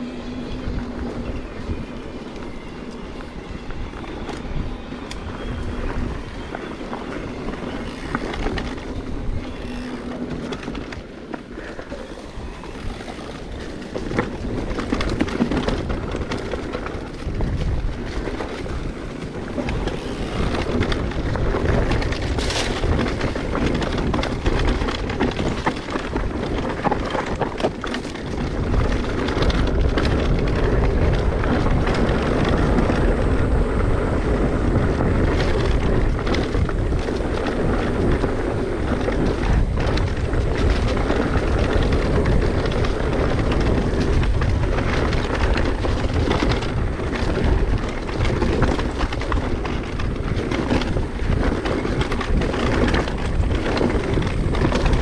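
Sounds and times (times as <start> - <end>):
bike tyre and trail noise: 0.0 - 55.0
wind buffeting microphone: 0.0 - 55.0
small clicks and rattles: 6.5 - 33.9, 34.7 - 55.0.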